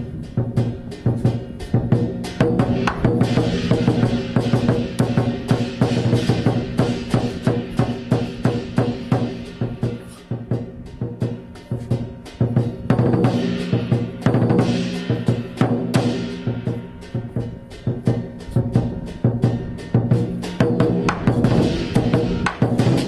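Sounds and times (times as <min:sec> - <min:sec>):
cymbals crashing: 0:00.0 - 0:23.0
fast drumming: 0:00.0 - 0:23.0.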